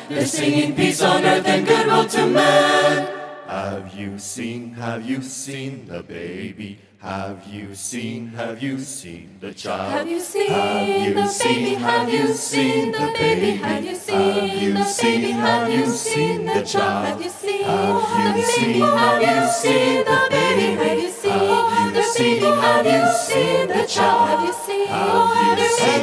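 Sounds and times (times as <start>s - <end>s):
vocal ensemble singing a cappella: 0.0s - 26.0s.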